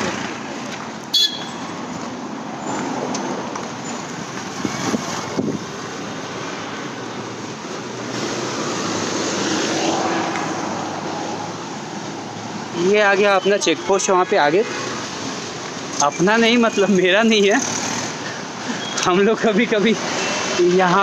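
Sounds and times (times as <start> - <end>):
cars and scooters passing: 0.0 - 21.0.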